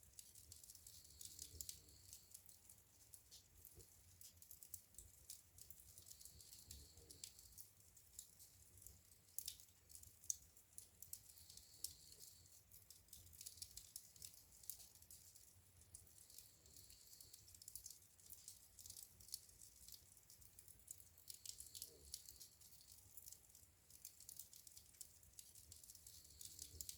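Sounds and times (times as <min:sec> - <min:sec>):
soft hiss of fire: 0:00.0 - 0:26.9
wood fire crackling: 0:00.0 - 0:26.9.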